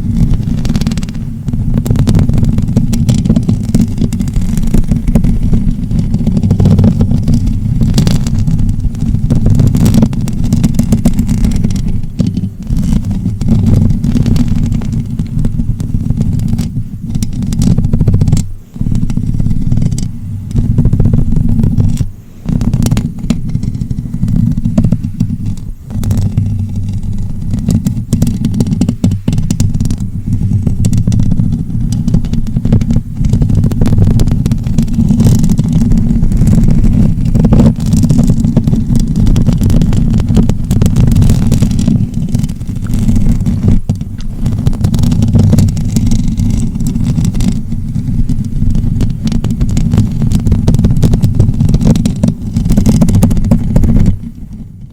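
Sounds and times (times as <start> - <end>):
scratching on microphone: 0.0 - 54.9.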